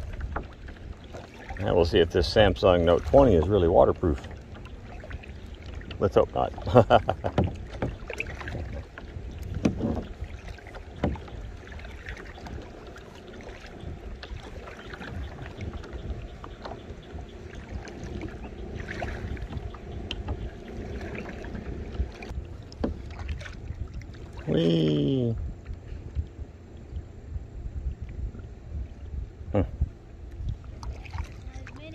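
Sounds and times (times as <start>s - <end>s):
low rumble: 0.0s - 31.9s
paddle strokes and splashes: 0.0s - 31.9s.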